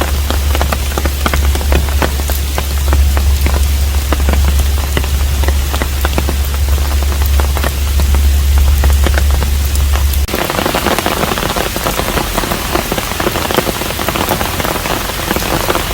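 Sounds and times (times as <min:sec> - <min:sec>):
low hum: 0:00.0 - 0:15.7
raindrops striking close by: 0:00.0 - 0:15.9
steady rain: 0:00.0 - 0:15.9.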